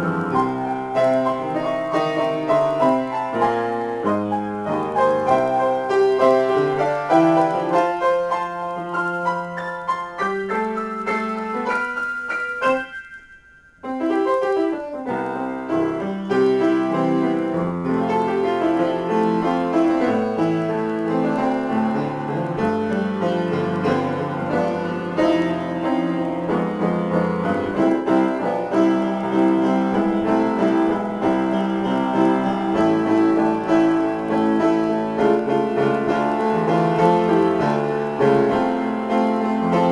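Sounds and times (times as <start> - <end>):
solo piano improvisation: 0.0 - 39.9.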